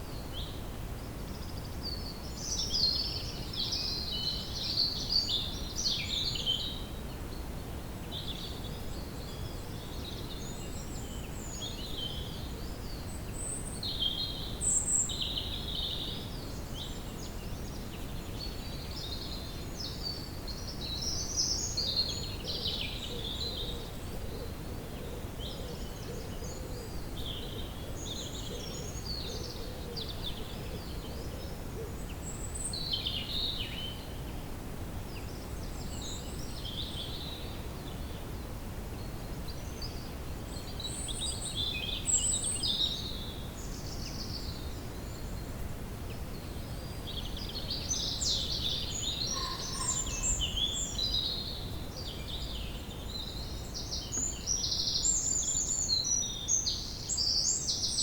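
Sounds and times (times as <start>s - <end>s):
songbirds chirping and warbling: 0.0s - 58.0s.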